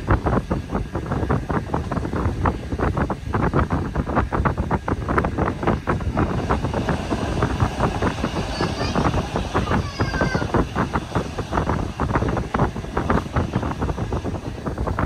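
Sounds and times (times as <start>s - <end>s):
low rumble: 0.0s - 15.0s
train carriage rattling: 0.0s - 15.0s
wind on microphone: 0.0s - 15.0s.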